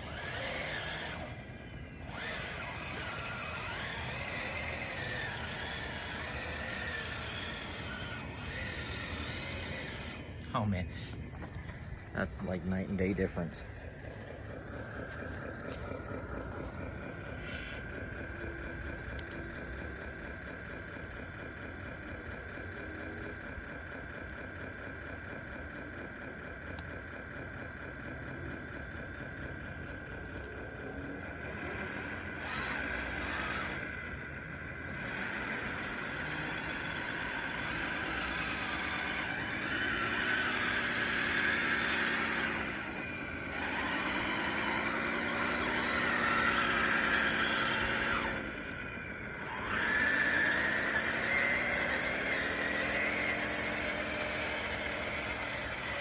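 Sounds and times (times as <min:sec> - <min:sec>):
toy bulldozer mechanical whine: 0:00.0 - 0:56.0.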